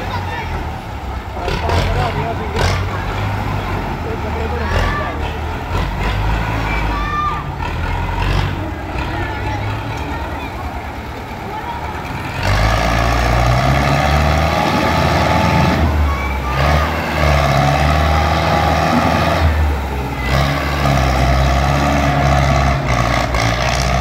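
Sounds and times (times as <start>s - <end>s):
tractor diesel engine revving: 0.0s - 24.0s.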